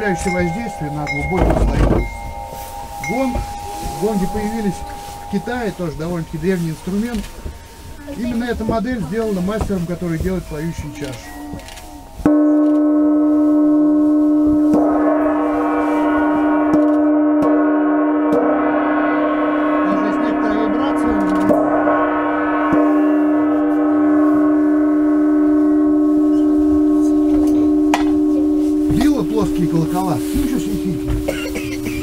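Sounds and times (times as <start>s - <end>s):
gong struck with mallet: 0.0s - 32.0s.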